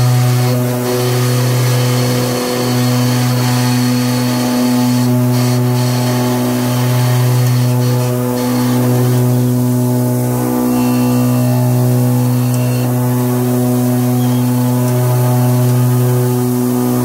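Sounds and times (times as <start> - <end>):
machine motors humming: 0.0 - 17.0.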